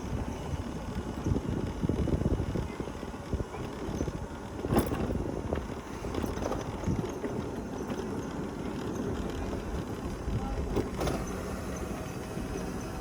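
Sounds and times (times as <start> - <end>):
mobility scooter rumbling: 0.0 - 13.0.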